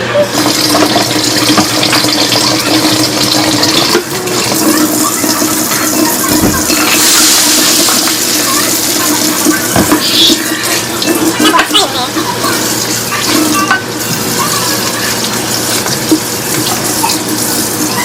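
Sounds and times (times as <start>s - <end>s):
tap water running into sink: 0.3s - 18.0s.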